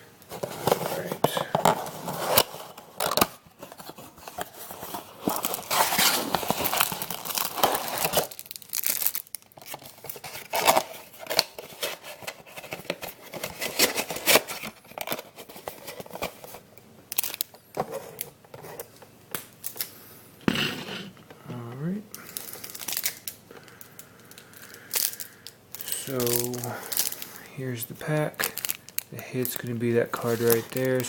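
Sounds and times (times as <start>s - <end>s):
packaging tearing and crinkling: 0.4s - 16.5s, 17.1s - 18.3s, 22.2s - 31.0s.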